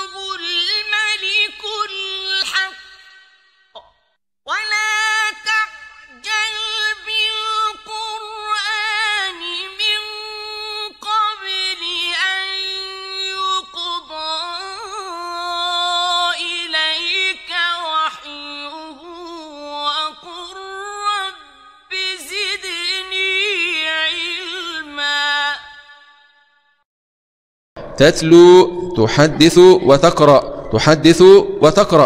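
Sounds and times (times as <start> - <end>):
solo high voice chanting: 0.0 - 3.8, 4.5 - 26.5, 27.8 - 32.0.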